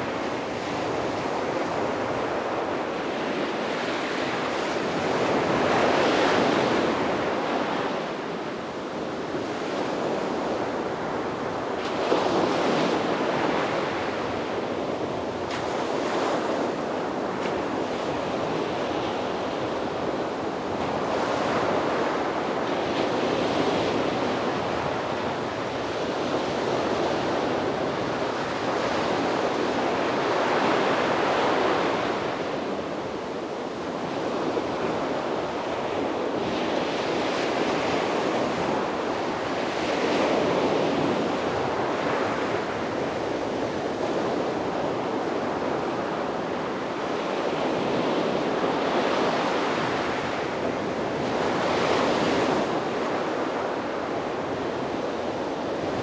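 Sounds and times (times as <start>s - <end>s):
sea waves breaking on a beach: 0.0s - 56.0s
wind on microphone: 0.0s - 56.0s.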